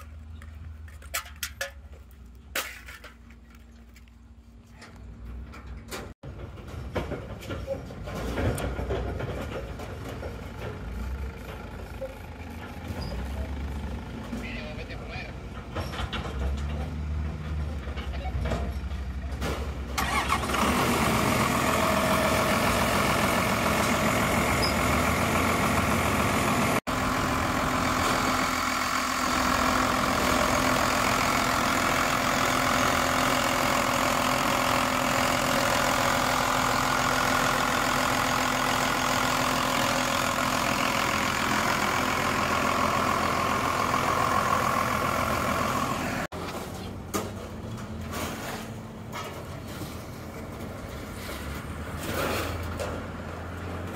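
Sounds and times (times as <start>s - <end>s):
diesel engine starting and running: 0.0s - 53.9s.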